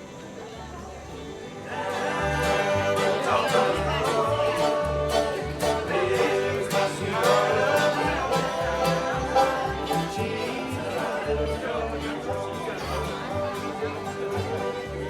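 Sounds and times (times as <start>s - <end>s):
guitar: 0.0s - 15.0s
plucked banjo: 1.2s - 15.0s
bass keeping a beat: 1.8s - 15.0s.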